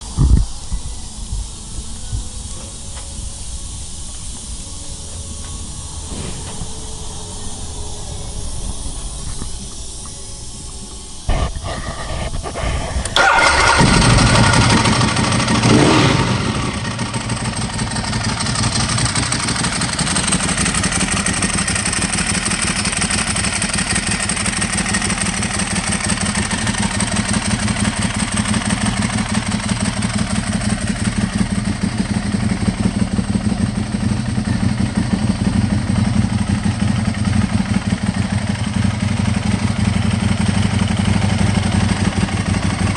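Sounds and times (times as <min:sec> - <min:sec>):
motorcycle engine starting and idling: 0:00.0 - 0:42.9.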